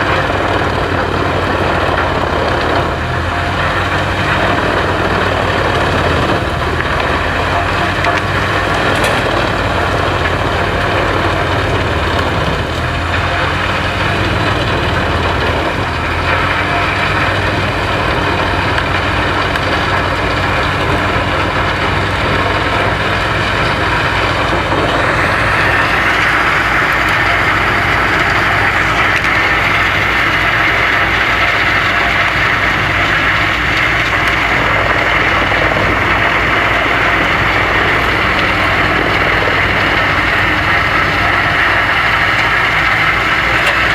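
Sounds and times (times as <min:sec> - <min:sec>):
wood chipper running: 0:00.0 - 0:43.9.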